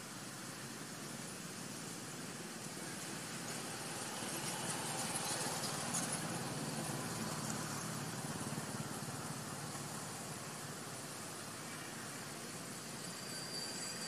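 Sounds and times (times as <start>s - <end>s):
even hiss: 0.0s - 14.0s.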